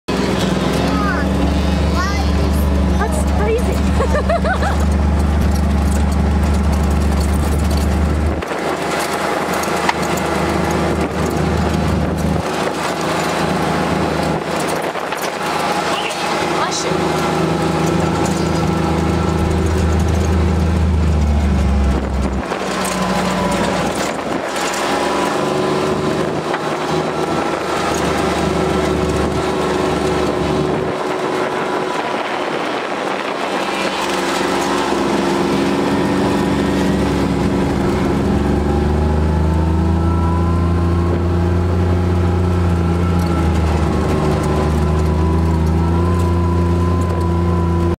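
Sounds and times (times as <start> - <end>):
atv engine running: 0.1 - 48.0.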